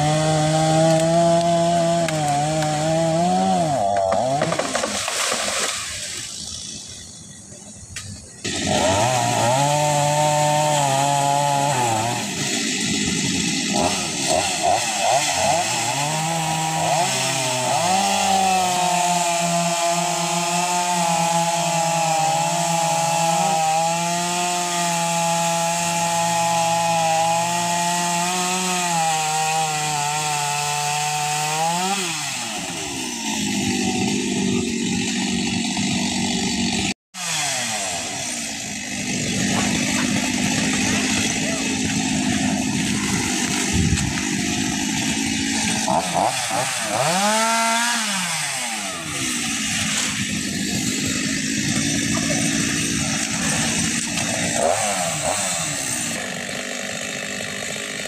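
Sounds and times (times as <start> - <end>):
chainsaw engine cutting: 0.0 - 58.0.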